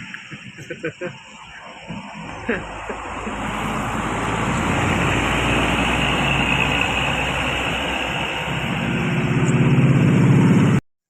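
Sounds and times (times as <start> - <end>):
bus engine droning: 0.0 - 10.8
roadside traffic: 0.0 - 10.8.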